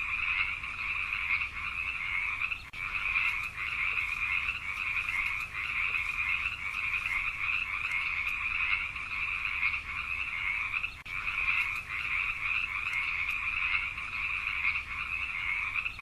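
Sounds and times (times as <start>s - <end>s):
tree frog trilling: 0.0s - 16.0s.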